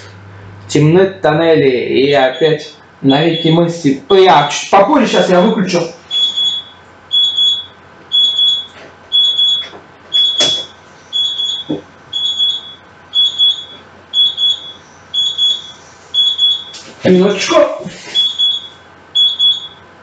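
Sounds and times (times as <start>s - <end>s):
oven timer beeping: 2.0s - 16.8s, 18.2s - 20.0s.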